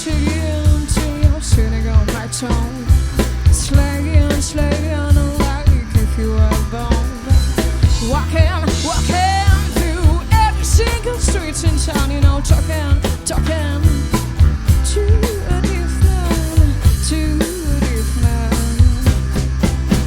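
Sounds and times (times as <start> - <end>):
live drum kit beat: 0.0 - 20.0
rock song: 0.0 - 20.0.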